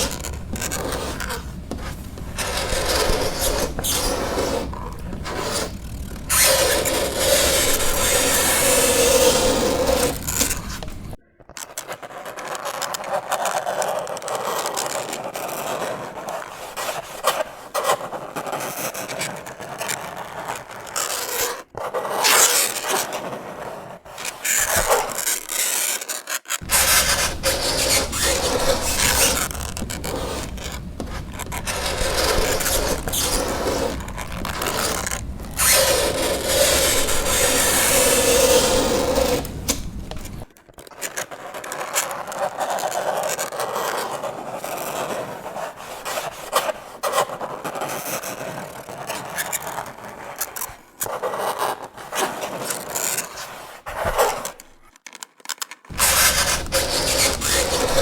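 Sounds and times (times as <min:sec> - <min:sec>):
fingernails scraping a chalkboard: 0:00.0 - 0:54.6, 0:55.9 - 0:58.0.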